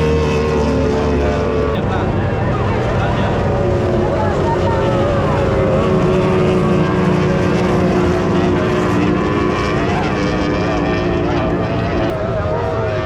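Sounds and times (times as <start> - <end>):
racing outboard engines droning: 0.0 - 13.0.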